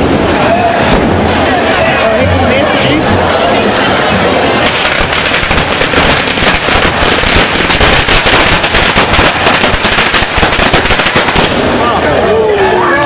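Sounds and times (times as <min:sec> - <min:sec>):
firecrackers crackling and banging: 0:00.0 - 0:13.0.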